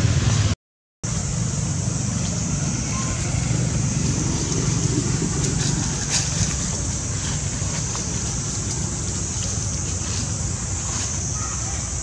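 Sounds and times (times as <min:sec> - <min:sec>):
high-pitched hiss: 0:01.1 - 0:12.0
wind rumbling on microphone: 0:01.1 - 0:12.0
faint rustles: 0:02.2 - 0:12.0.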